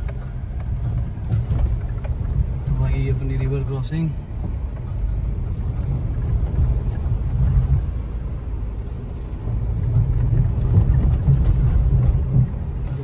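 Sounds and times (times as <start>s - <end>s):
car engine rumble from inside: 0.0s - 13.0s.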